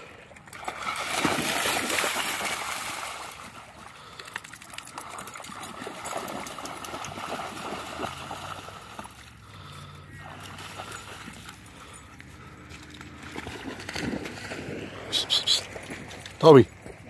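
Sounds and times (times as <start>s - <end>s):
dogs splashing through water: 0.0s - 17.0s.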